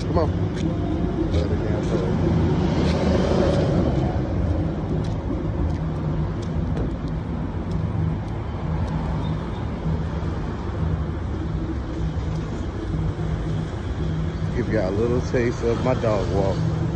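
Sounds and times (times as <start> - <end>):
rumble of passing cars: 0.0 - 16.9.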